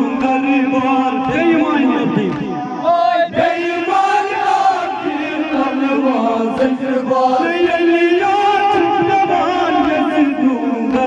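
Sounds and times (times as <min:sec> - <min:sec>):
men chanting through microphones: 0:00.0 - 0:11.0.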